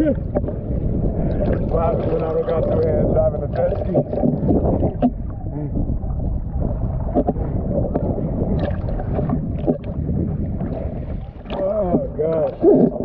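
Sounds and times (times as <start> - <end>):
jet ski engine rumble: 0.0 - 13.0
water splashes: 0.0 - 13.0
wind buffeting microphone: 0.0 - 13.0.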